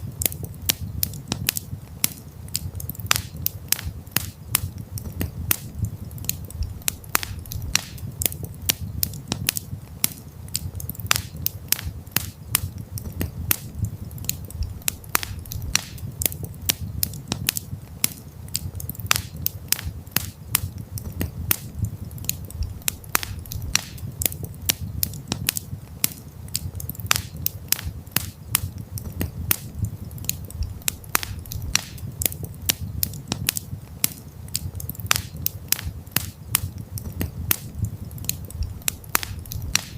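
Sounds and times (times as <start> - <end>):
campfire pops and snaps: 0.0 - 39.9
low rumble of burning fire: 0.0 - 39.9.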